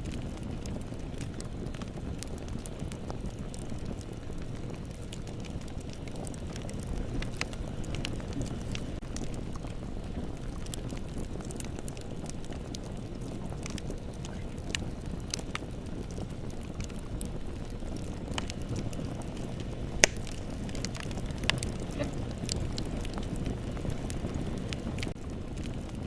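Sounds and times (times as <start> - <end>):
bonfire crackling: 0.0 - 26.0.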